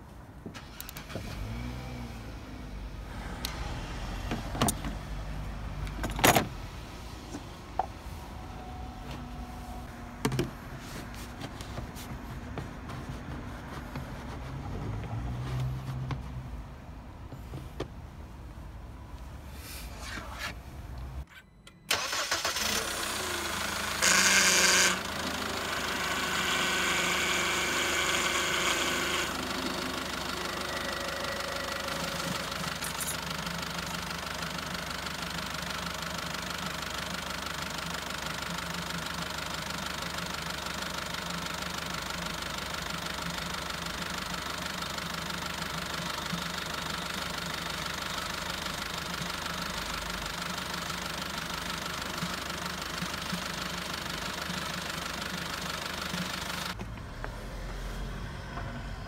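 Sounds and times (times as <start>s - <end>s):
car engine starting and idling: 0.2s - 59.0s.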